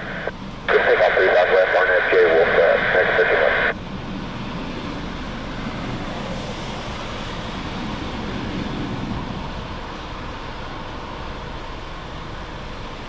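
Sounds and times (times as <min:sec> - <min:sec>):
distant jet engines rumbling: 0:00.0 - 0:11.8.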